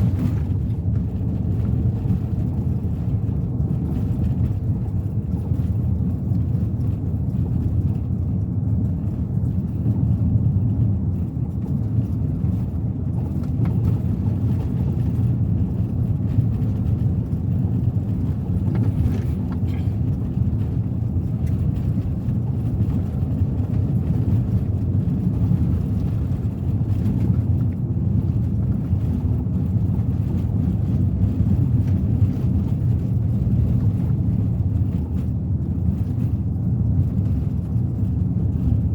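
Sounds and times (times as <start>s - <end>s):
car engine drone: 0.0s - 38.9s
tyre and road noise: 0.0s - 38.9s.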